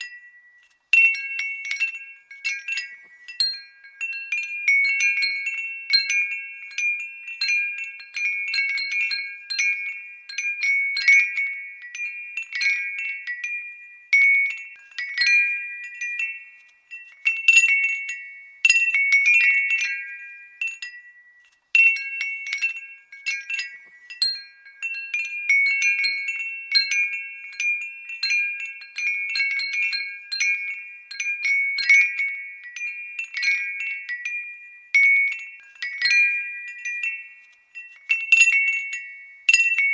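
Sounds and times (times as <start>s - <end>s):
glass wind bell ringing: 0.0s - 39.9s.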